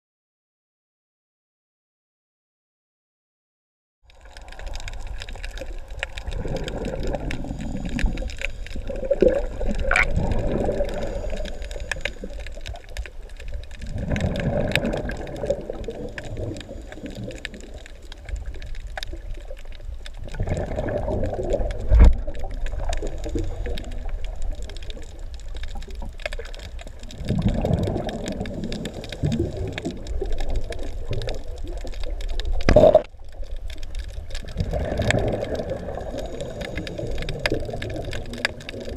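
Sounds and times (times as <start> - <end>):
sharp crackling clicks: 4.1 - 38.9
underwater exhaled bubbles rumbling: 4.1 - 38.9.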